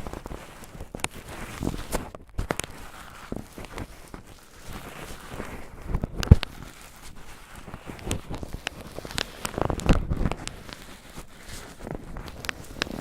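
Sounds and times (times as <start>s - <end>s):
cotton swabs rubbing on microphone: 0.0s - 13.0s.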